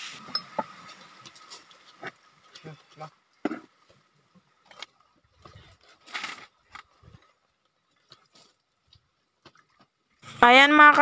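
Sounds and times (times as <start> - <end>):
rustles of leaf and plastic: 0.0 - 10.4.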